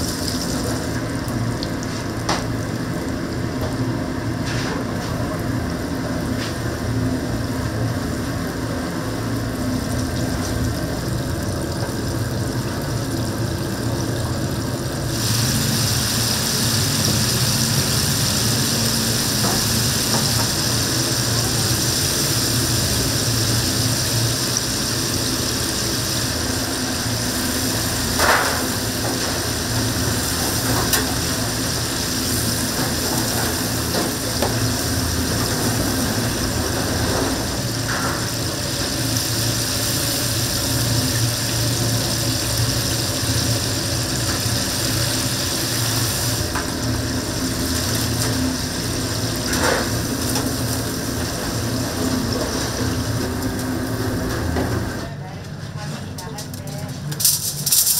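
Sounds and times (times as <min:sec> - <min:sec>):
deep-frying oil sizzling: 0:00.0 - 0:55.1
low machine hum: 0:00.0 - 0:57.8.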